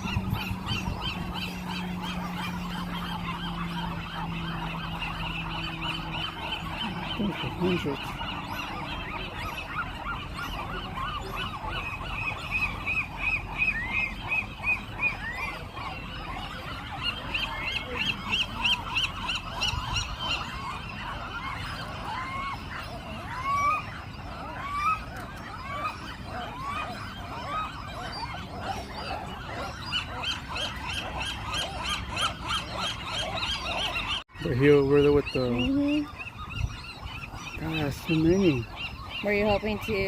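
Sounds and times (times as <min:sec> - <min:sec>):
seabird colony calling: 0:00.0 - 0:40.0.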